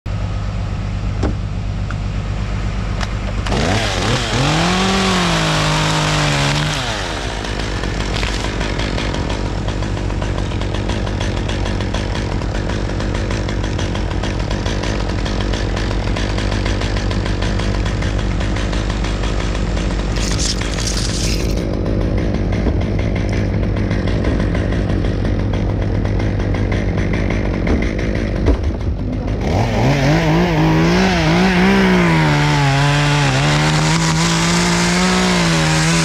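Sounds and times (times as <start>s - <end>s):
chainsaw idling and revving: 3.0s - 36.0s.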